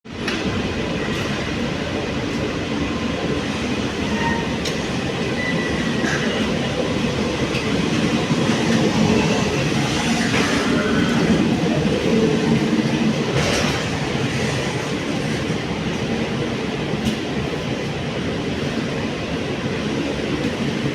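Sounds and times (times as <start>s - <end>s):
train wheels rumbling on track: 0.1s - 20.9s.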